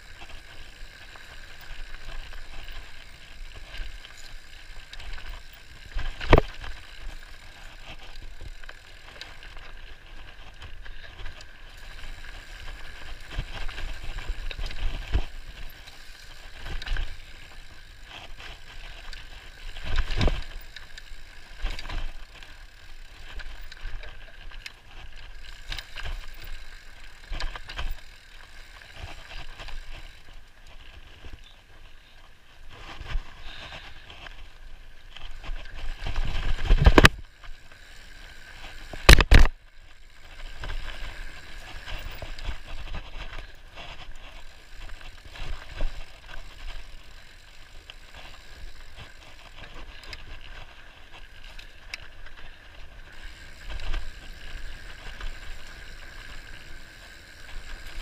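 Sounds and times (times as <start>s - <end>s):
bike rattling and knocking: 0.0s - 58.0s
bike tyre and ride noise: 0.0s - 58.0s.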